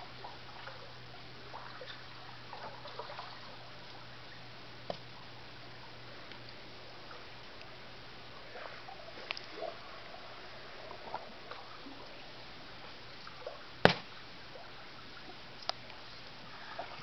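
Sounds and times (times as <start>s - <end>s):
water sloshing and dripping: 0.0s - 5.2s, 6.2s - 17.0s.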